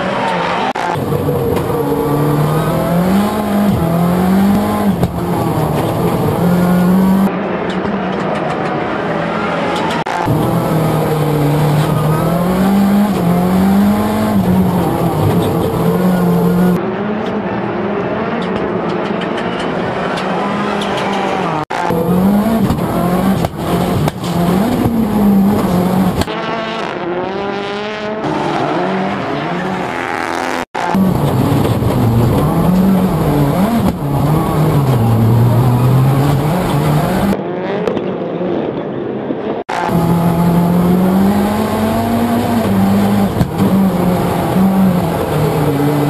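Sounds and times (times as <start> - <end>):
race car engines revving: 0.0 - 46.0.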